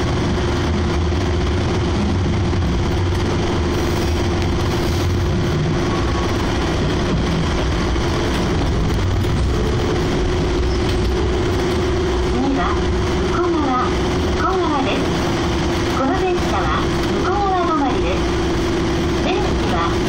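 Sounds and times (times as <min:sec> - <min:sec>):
train hum: 0:00.0 - 0:20.0
train wheels rumbling on track: 0:00.0 - 0:20.0.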